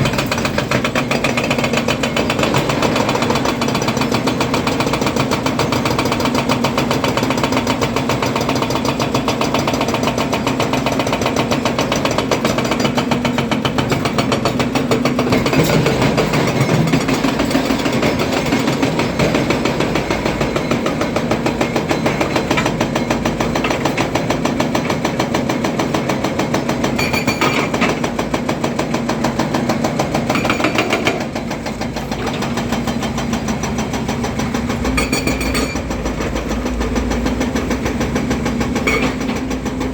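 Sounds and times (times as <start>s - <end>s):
excavator diesel engine chugging: 0.0s - 39.9s.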